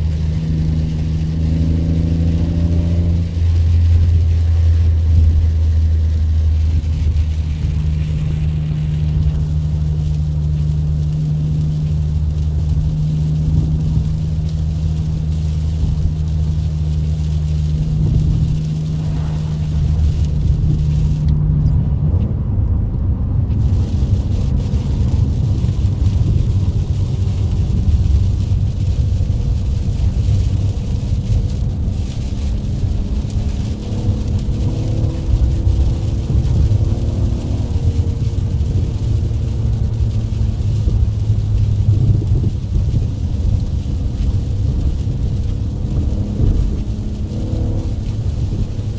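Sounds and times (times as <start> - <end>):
car engine droning: 0.0 - 48.9
engine hum: 0.0 - 48.9.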